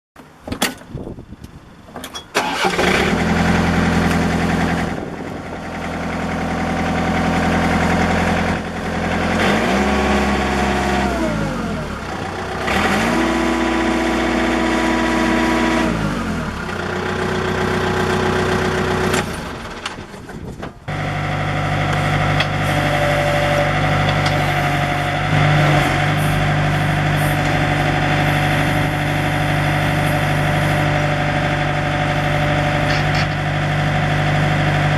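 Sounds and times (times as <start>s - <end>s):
diesel engine cranking: 0.2s - 34.9s
diesel engine running and revving: 2.4s - 34.9s.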